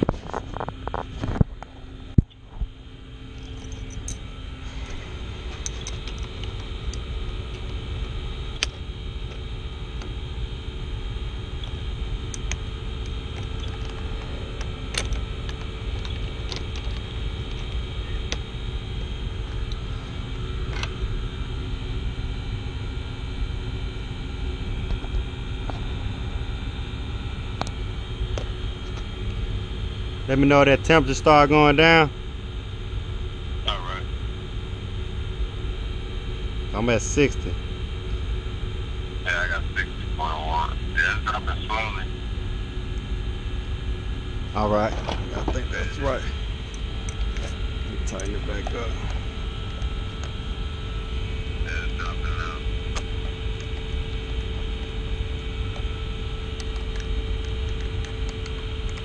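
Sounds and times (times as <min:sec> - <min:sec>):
hvac machinery rumble: 0:00.0 - 0:59.0.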